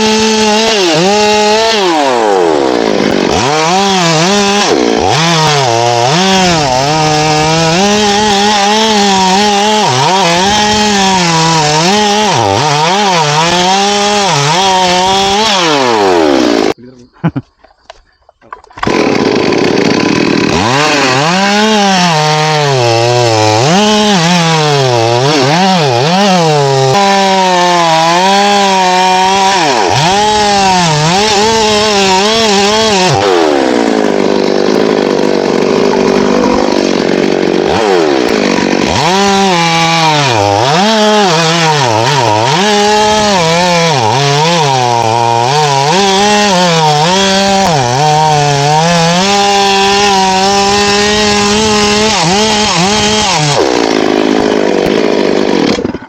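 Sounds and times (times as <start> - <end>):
chainsaw cutting wood: 0.0 - 16.8, 18.7 - 56.0.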